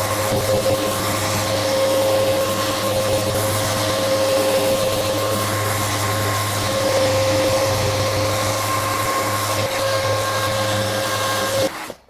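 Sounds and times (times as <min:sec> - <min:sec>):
orbital sander running: 0:00.0 - 0:12.0
vacuum dust extractor drone: 0:00.0 - 0:12.0.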